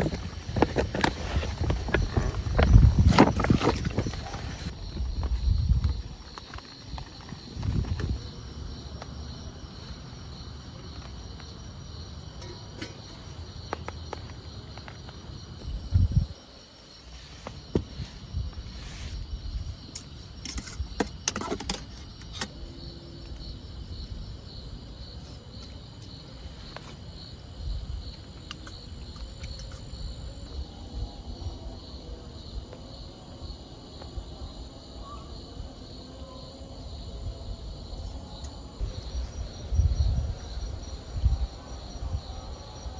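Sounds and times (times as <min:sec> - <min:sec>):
night insects chirping: 0:00.0 - 0:42.9.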